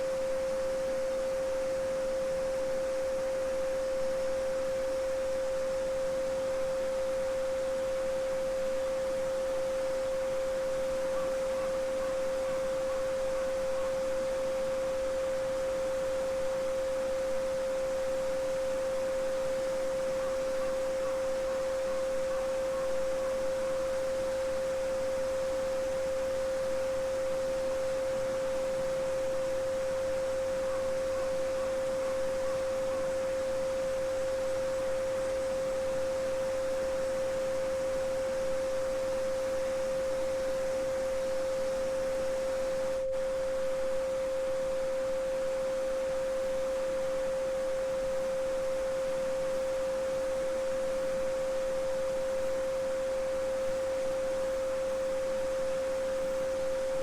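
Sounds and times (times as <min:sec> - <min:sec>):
steady sine tone: 0:00.0 - 0:57.0.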